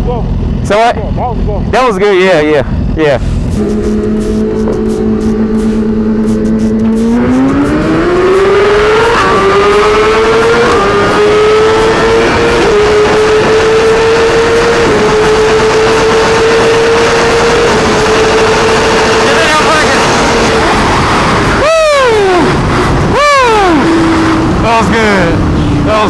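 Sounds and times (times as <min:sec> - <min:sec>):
motorcycle engine at full throttle: 0:00.0 - 0:26.0.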